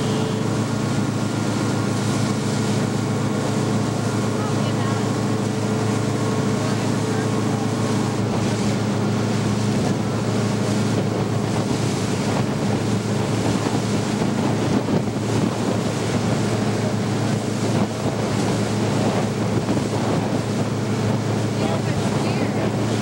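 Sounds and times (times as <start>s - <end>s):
boat engine running: 0.0s - 23.0s
water rushing past hull: 0.0s - 23.0s
wind buffeting microphone: 0.0s - 23.0s.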